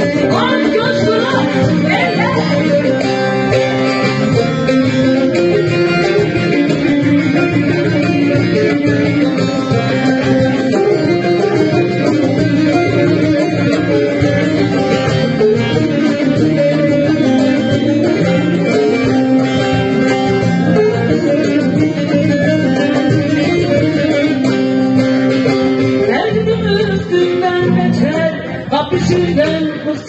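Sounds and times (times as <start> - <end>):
hand drum rhythm: 0.0 - 30.0
long-necked lute melody: 0.0 - 30.0.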